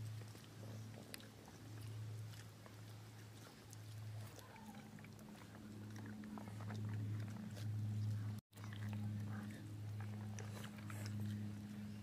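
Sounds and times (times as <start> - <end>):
children eating by hand: 0.0 - 12.0
low hum: 0.0 - 12.0.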